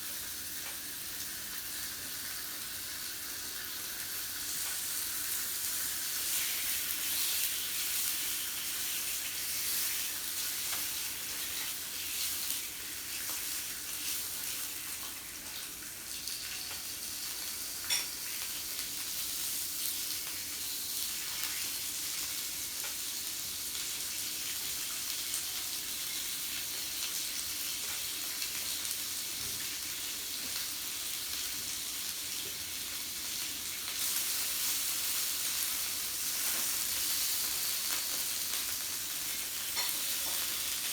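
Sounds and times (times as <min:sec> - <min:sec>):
meat sizzling on a grill: 0:00.0 - 0:40.9.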